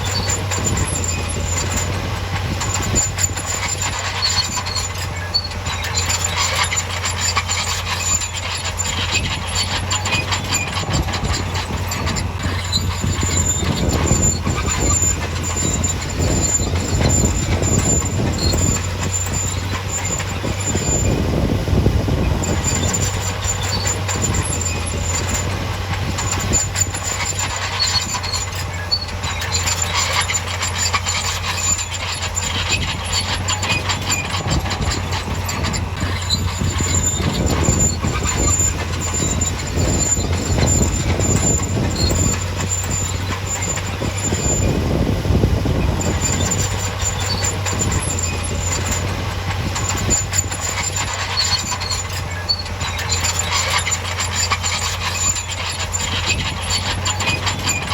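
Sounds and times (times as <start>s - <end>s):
diesel engine running: 0.0s - 57.9s
high squeal: 0.0s - 57.9s
steel tracks clanking: 0.0s - 57.9s.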